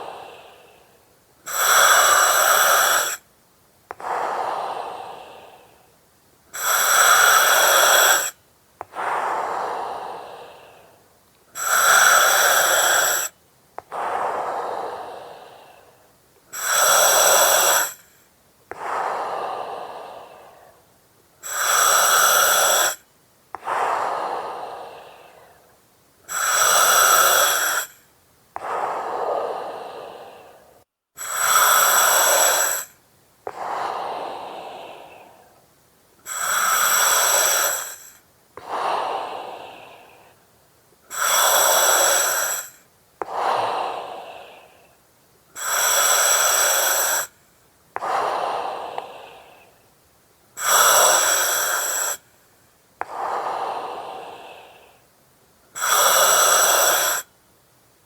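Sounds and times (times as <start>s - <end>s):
breathing through oxygen mask: 0.0s - 3.2s, 3.9s - 5.9s, 6.5s - 23.0s, 23.6s - 25.7s, 26.3s - 35.6s, 36.2s - 40.4s, 41.1s - 45.0s, 45.6s - 47.4s, 48.0s - 49.8s, 50.6s - 52.3s, 53.0s - 55.1s, 55.8s - 57.3s.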